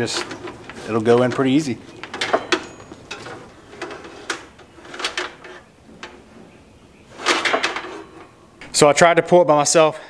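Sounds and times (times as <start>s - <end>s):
wires scraping against metal conduit: 0.0s - 8.4s.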